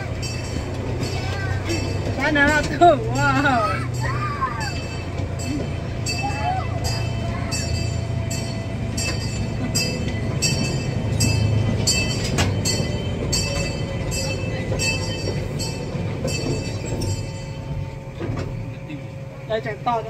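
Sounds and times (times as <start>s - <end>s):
small train rumbling on track: 0.0s - 20.0s.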